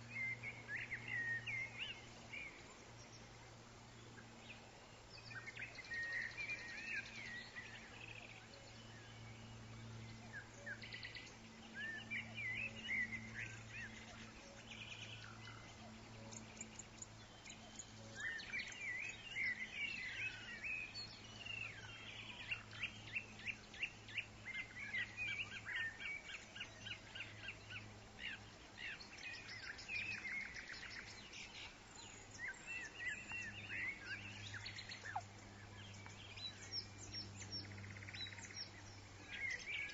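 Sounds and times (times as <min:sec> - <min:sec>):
faint steady low hum: 0:00.0 - 0:39.9
songbirds chirping and trilling: 0:00.0 - 0:39.9.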